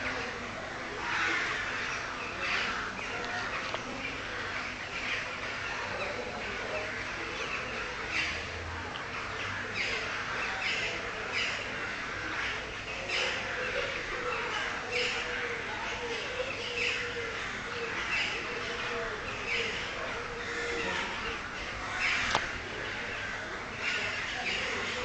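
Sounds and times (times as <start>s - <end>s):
flock of birds chattering: 0.0s - 25.0s.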